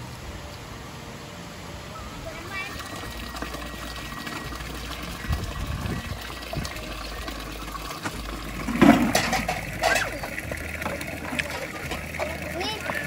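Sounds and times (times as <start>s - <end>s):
water pouring from spout: 2.5s - 13.0s.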